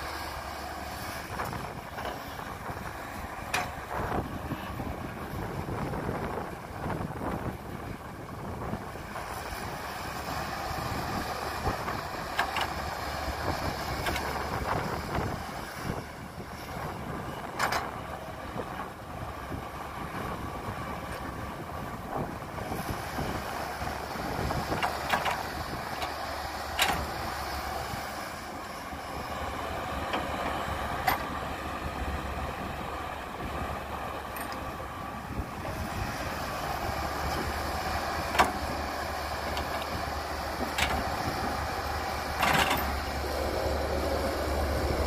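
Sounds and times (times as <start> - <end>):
excavator diesel engine under load: 0.0 - 45.0.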